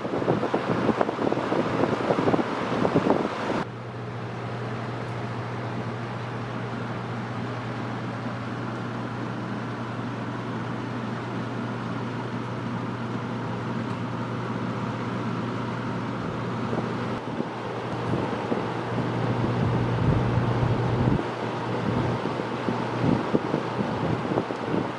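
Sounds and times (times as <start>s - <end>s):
box fan running: 0.0s - 24.9s.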